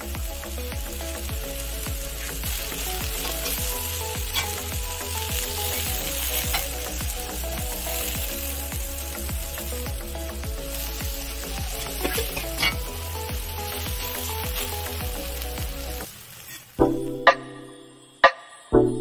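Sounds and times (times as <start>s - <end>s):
background music with low beat: 0.0s - 16.1s, 16.8s - 19.0s
vegetables sizzling on a griddle: 0.0s - 17.5s.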